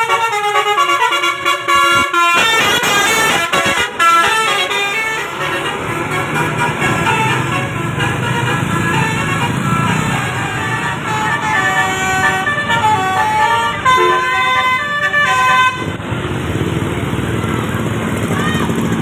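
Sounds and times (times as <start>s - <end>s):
multi-tone bus horn tune: 0.0s - 16.0s
bus engine running: 0.0s - 19.0s.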